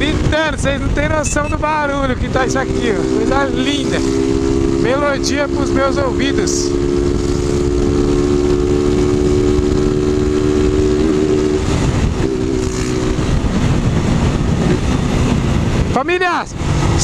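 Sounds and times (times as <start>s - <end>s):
motorcycle exhaust screaming: 0.0s - 15.9s
wind and road rush: 0.0s - 17.0s.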